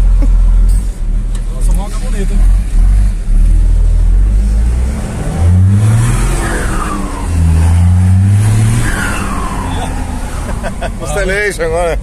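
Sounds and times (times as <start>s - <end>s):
pickup engine revving: 1.2s - 11.8s.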